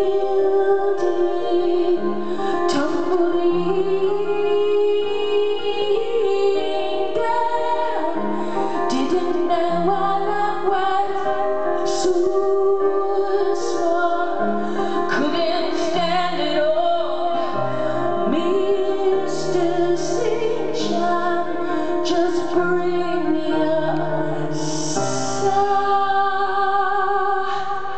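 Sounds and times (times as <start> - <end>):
piano: 0.0 - 27.9
woman singing: 0.0 - 27.9.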